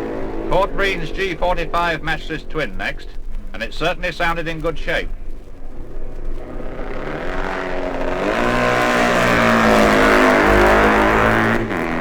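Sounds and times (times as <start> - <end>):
racing motorcycle passing at speed: 0.0 - 12.0.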